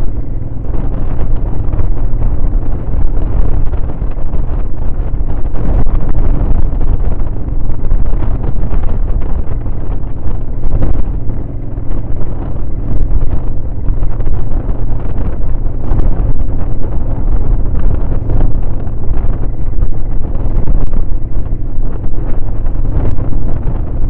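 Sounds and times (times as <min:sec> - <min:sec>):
motorcycle engine drone: 0:00.0 - 0:24.0
wind buffeting microphone: 0:00.0 - 0:24.0.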